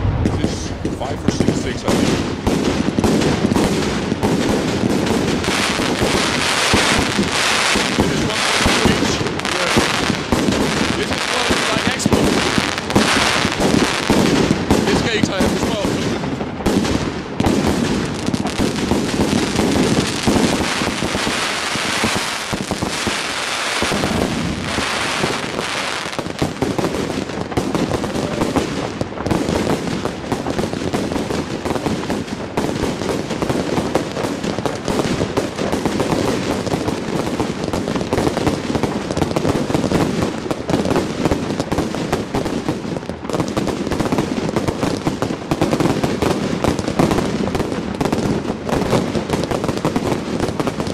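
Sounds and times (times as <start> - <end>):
fireworks hissing: 0.0 - 42.5
fireworks bangs and crackling: 0.0 - 50.9.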